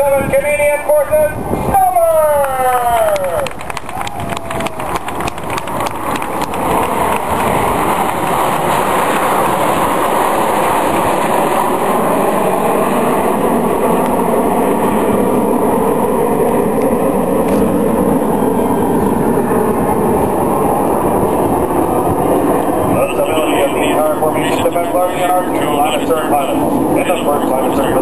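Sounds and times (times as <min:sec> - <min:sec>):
jets flying past: 0:00.0 - 0:28.0.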